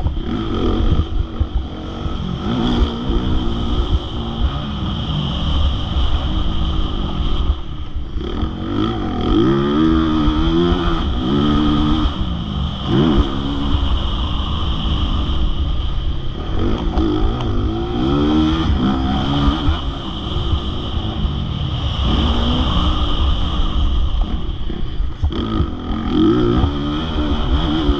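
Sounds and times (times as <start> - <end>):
low rumble: 0.0 - 27.9
motocross bike engine revving: 0.0 - 27.9.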